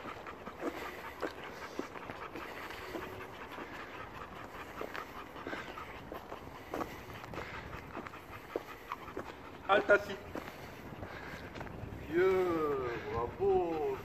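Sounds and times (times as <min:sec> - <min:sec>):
dogs panting: 0:00.0 - 0:14.0.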